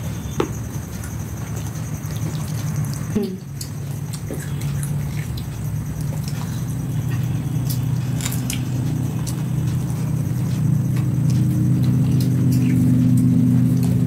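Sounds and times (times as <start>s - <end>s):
steady low hum: 0.0s - 14.0s
person chewing: 0.9s - 14.0s.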